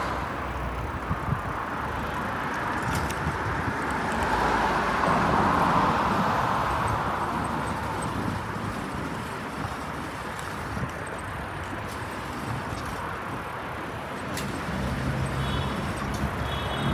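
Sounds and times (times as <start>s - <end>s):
cars passing: 0.0s - 16.9s
vehicle engine humming nearby: 0.0s - 16.9s.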